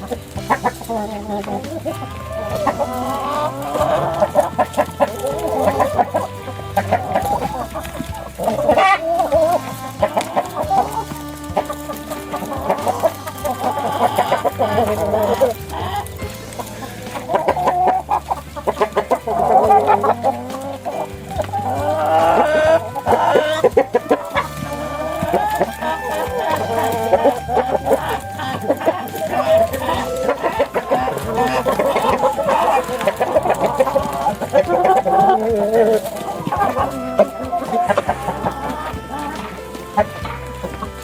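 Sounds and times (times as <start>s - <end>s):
background music: 0.0s - 41.0s
chickens clucking: 0.0s - 41.0s.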